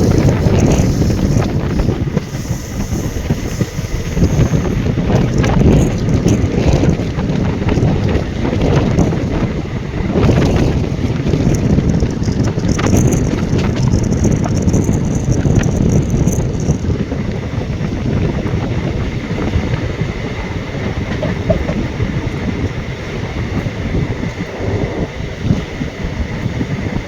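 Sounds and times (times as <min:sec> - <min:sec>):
train wheels rumbling on rails: 0:00.0 - 0:27.0
wind buffeting microphone: 0:00.0 - 0:27.0.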